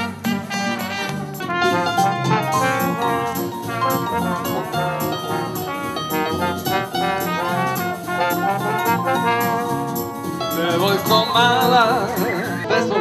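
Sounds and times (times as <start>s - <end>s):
low bass notes: 0.0s - 7.8s, 8.4s - 12.8s
trombone playing: 0.0s - 13.0s
trumpet playing: 0.0s - 13.0s.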